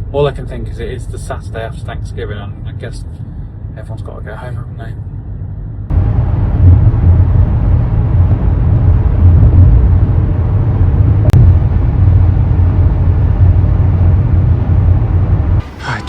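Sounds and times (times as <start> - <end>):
low road rumble inside car: 0.0 - 16.0.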